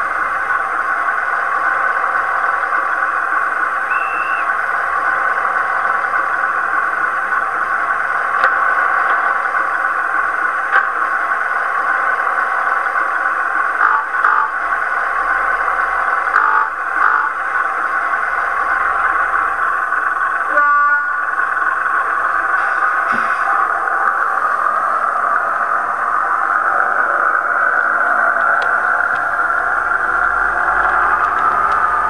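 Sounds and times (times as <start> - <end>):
tinny diesel engine idling hum: 0.0 - 32.0.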